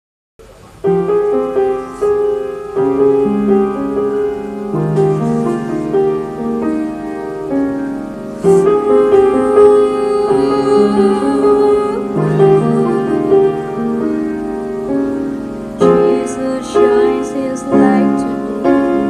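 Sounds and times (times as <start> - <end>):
slow piano ballad: 0.4 - 19.0.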